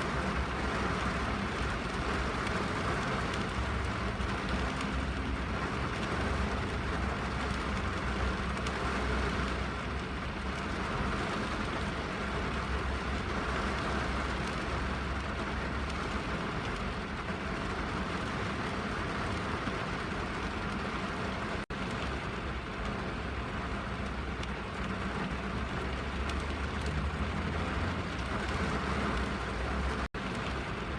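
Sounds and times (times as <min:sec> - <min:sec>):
rain on car roof: 0:00.0 - 0:30.9.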